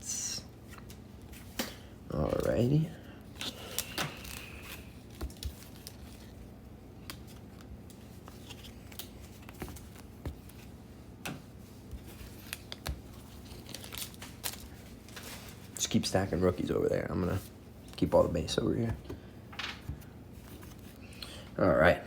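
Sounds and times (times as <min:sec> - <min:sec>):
steady low hum: 0:00.0 - 0:22.0
trading cards rustling and clicking: 0:00.7 - 0:21.2.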